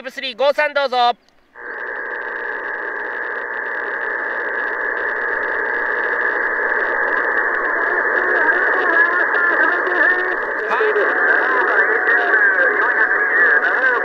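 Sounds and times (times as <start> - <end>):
radio hiss and static: 1.5 - 14.0
faint garbled radio voices: 1.6 - 14.0.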